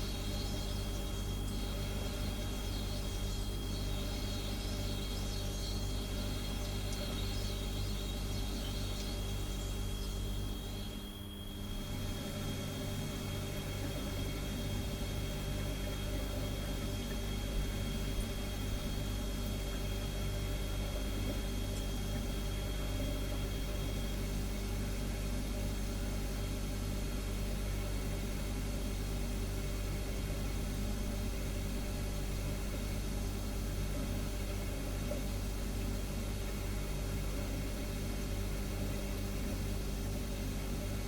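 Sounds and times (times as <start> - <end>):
refrigerator humming: 0.0 - 41.0.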